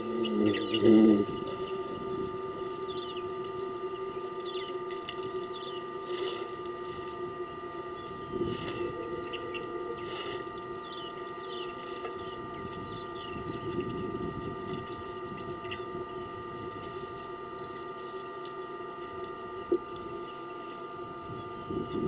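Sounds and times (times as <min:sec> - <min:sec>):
hum of held tones: 0:00.0 - 0:22.0.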